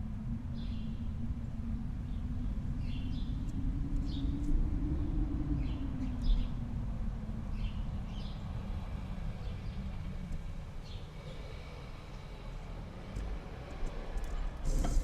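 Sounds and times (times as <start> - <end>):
small birds chirping: 2.0 - 6.6, 7.5 - 15.0.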